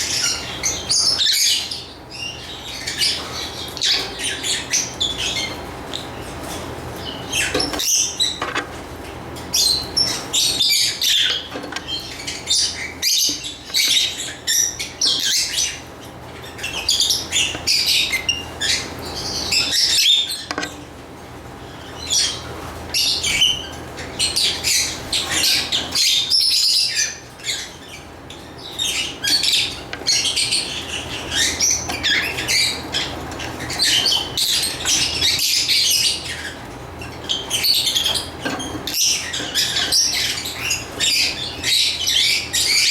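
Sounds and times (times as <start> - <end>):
lovebirds chirping: 0.0 - 8.5, 9.5 - 20.8, 21.5 - 42.9.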